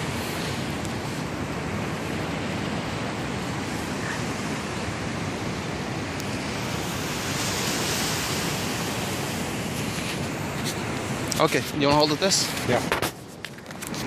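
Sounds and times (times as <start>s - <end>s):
surf on the beach: 0.0s - 14.0s
wind: 0.0s - 14.0s.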